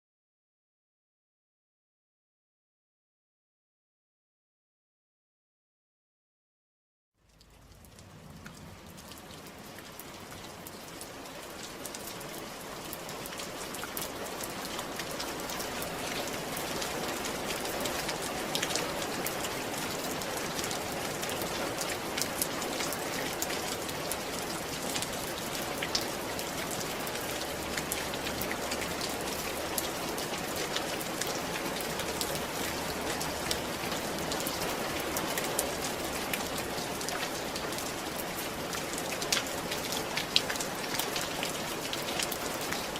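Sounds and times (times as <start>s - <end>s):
rain falling on a roof: 7.2s - 42.9s.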